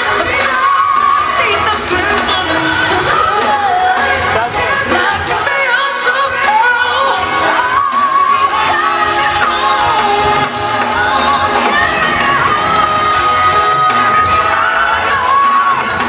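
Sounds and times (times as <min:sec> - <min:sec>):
band playing: 0:00.0 - 0:16.0
choir singing: 0:00.0 - 0:16.0
woman singing: 0:00.0 - 0:16.0.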